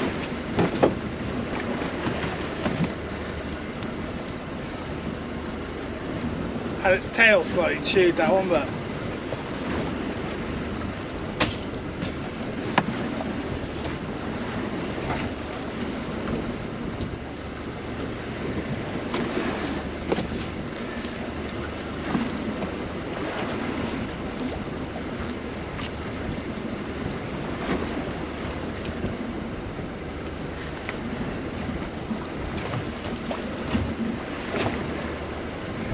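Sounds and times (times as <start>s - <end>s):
water around a boat: 0.0s - 35.9s
wind: 0.0s - 35.9s.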